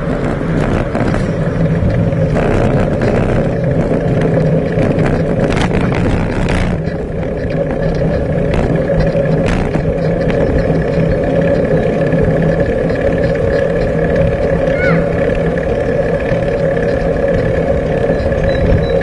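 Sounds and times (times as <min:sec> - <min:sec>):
bicycle knocks and rattles: 0:00.0 - 0:19.0
tyre noise on tarmac: 0:00.0 - 0:19.0
wind rumble: 0:00.0 - 0:19.0.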